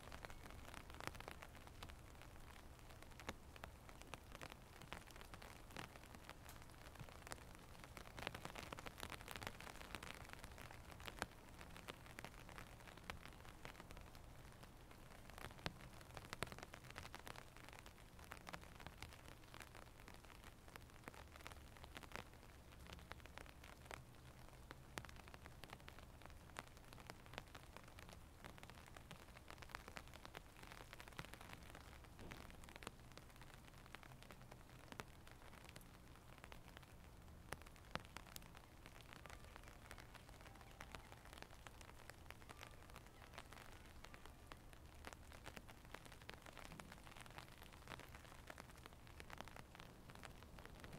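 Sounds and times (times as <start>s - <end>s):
light rain: 0.0s - 50.9s
raindrops ticking: 0.0s - 50.9s.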